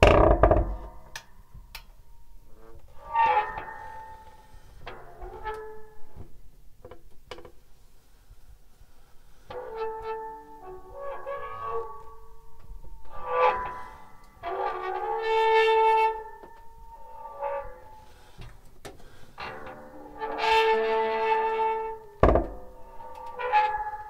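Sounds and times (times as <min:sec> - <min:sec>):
metal pivots squeaking and creaking: 0:00.0 - 0:08.1, 0:09.3 - 0:24.0.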